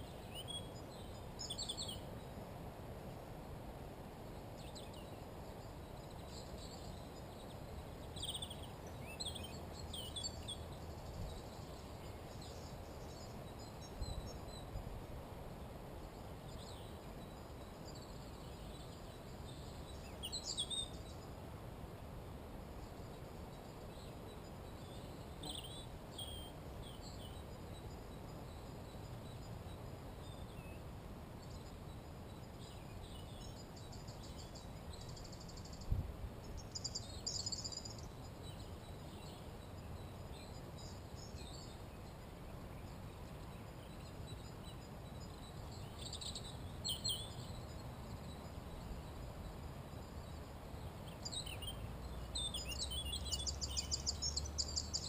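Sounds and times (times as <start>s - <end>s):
songbirds calling and trilling: 0.0s - 3.2s, 4.0s - 55.0s.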